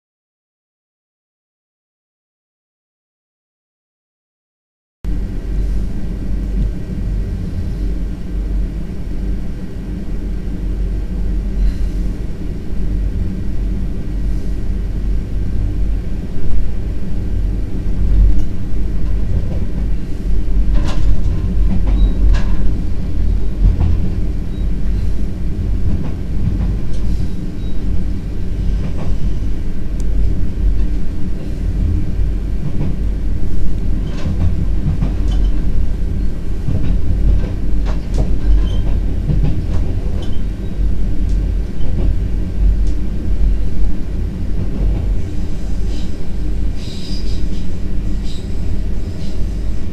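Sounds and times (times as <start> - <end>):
train rumbling on track: 5.1 - 49.9.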